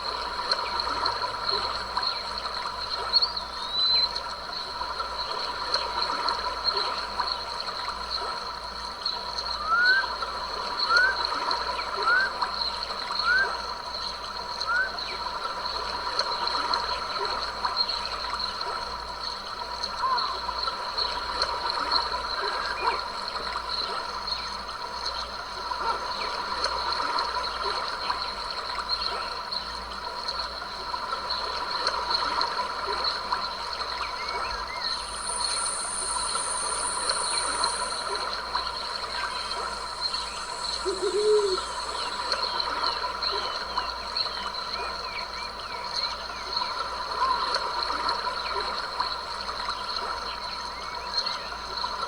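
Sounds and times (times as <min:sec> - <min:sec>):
insect chorus: 0:00.0 - 0:52.0
small stream trickling: 0:00.0 - 0:52.0.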